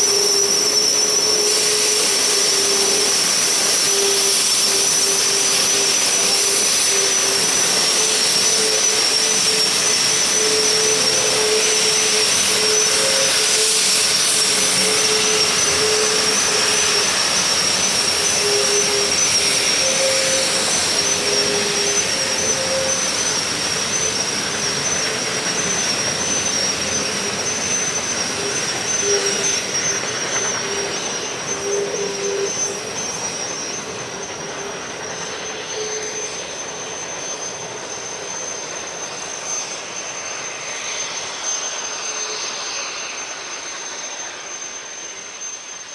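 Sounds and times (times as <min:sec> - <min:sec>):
steam train hiss and rumble: 0:00.0 - 0:45.9
thin high squeal: 0:00.0 - 0:45.9.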